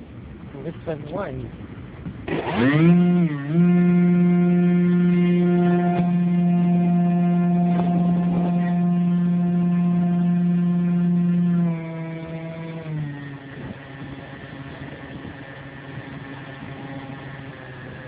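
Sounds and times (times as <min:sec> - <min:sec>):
model airplane motor droning: 0:00.9 - 0:18.0.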